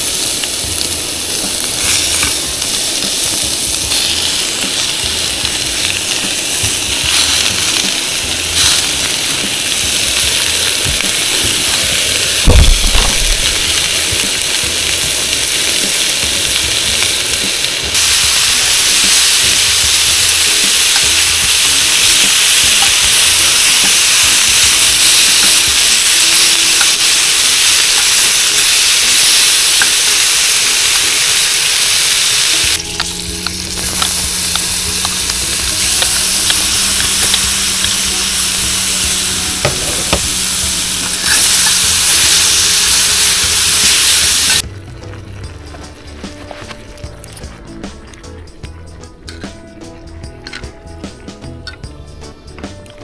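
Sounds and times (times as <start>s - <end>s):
food sizzling in a pan: 0.0s - 44.6s.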